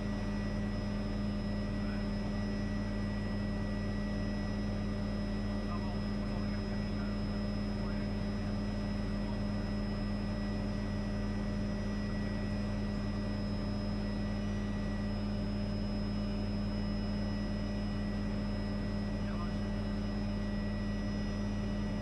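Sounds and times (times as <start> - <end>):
helicopter engine and rotor drone: 0.0 - 22.0.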